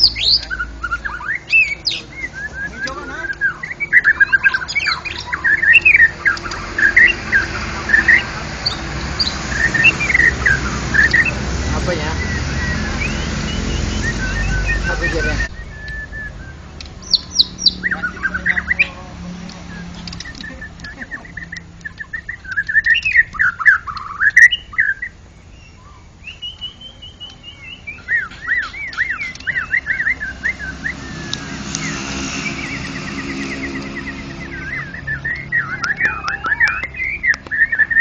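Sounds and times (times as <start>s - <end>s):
bird singing whistled phrases: 0.0s - 38.0s.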